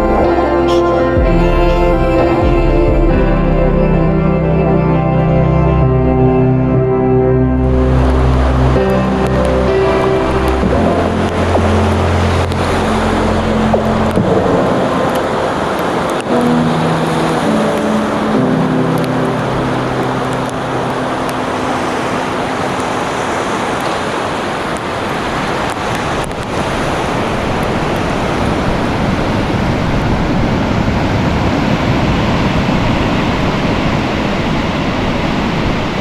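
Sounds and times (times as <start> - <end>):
ocean surf breaking: 0.0 - 36.0.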